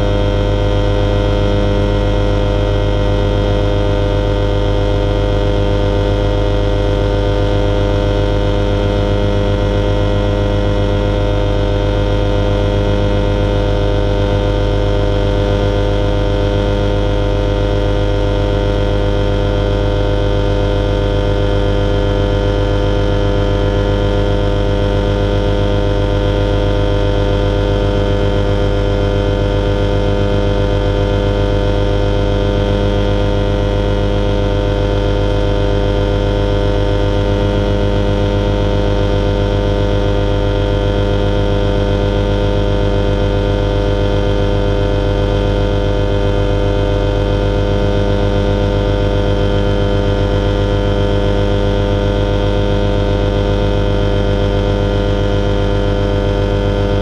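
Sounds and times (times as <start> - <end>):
motorglider engine and propeller drone: 0.0 - 57.0.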